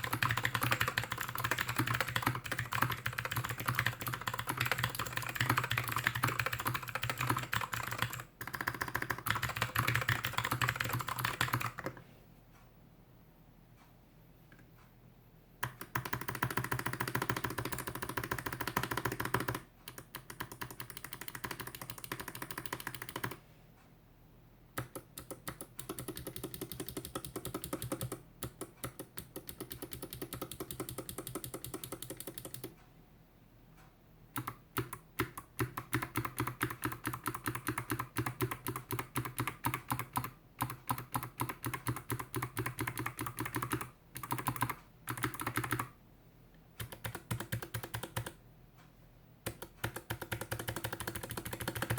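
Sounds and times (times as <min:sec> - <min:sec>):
mechanical keyboard typing clicks: 0:00.0 - 0:12.0, 0:15.6 - 0:23.4, 0:24.8 - 0:32.8, 0:34.4 - 0:46.0, 0:46.8 - 0:48.4, 0:49.4 - 0:51.9.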